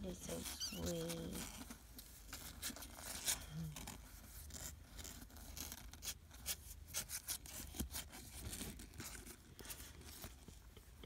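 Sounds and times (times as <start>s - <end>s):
kittens scuffling on fabric: 0.0s - 10.7s.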